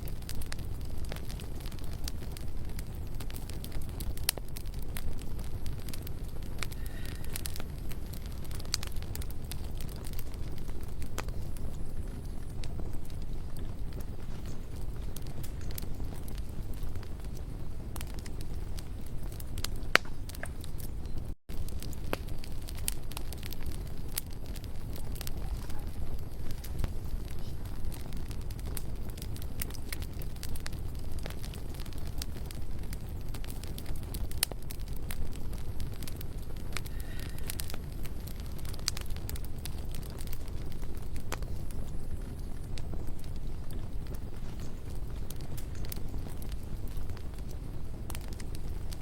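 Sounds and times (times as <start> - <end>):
campfire crackling and popping: 0.0 - 49.0
low fire rumble: 0.0 - 49.0.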